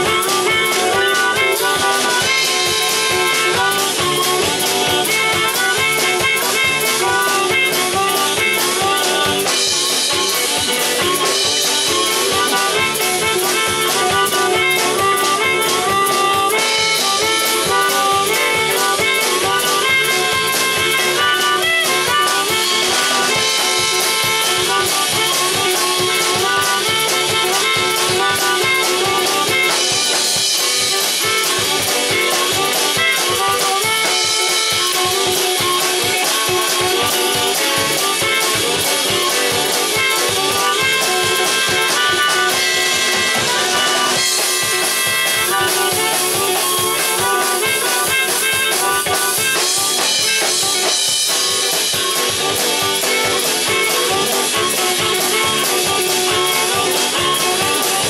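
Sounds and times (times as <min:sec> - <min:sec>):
amplified harmonica: 0:00.0 - 0:58.0
steady drum beat: 0:00.0 - 0:58.0.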